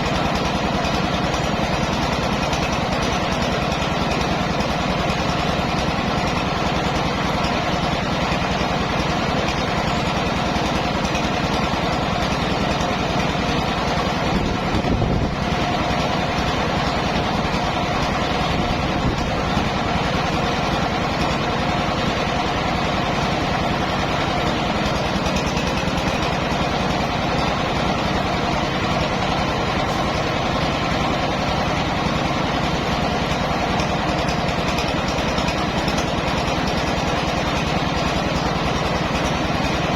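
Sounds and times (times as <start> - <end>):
rice milling machine droning: 0.0 - 39.9.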